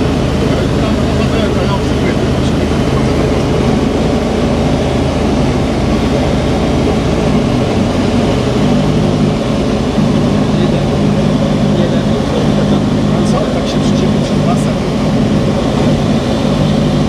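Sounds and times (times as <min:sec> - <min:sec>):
propeller aircraft engine in cabin: 0:00.0 - 0:17.0.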